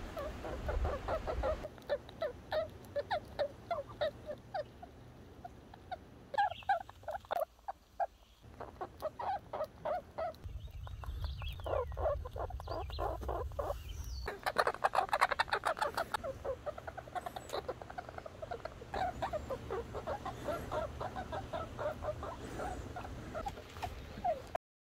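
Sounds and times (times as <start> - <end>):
squirrel squeaky chirps: 0.2 - 24.6.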